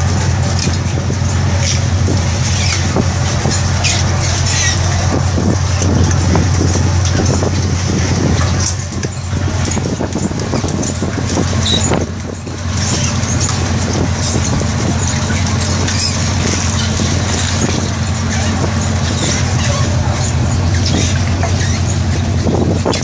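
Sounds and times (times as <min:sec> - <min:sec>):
fishing reels clicking and rattling: 0:00.0 - 0:23.0
ship machinery drone: 0:00.0 - 0:23.0.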